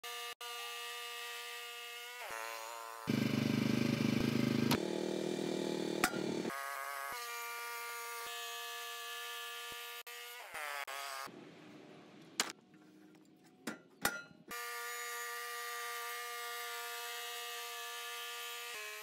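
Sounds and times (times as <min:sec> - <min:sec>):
bandsaw sawmill buzzing whine: 0:00.0 - 0:11.3, 0:14.5 - 0:19.0.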